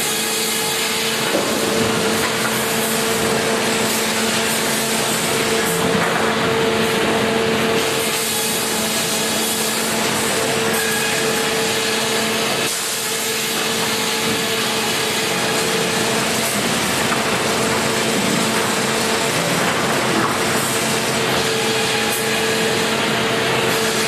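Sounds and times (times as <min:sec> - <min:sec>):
saw cutting timber: 0:00.0 - 0:24.0
sawmill machinery noise: 0:00.0 - 0:24.0.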